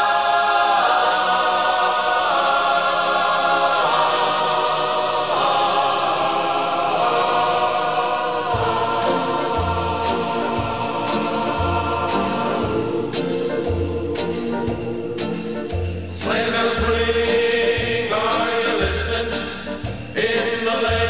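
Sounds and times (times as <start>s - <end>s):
held choral vocal chords: 0.0s - 21.0s.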